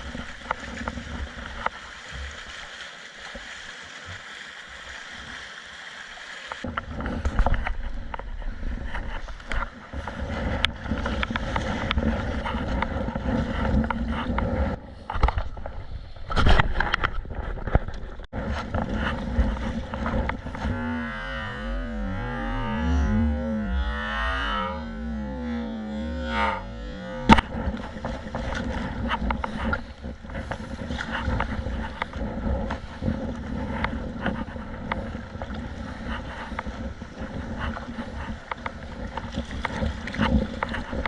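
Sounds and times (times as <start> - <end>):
wind rumbling on microphone: 0.0 - 2.6, 6.6 - 41.0
water sloshing and splashing: 0.0 - 23.1, 23.7 - 41.0.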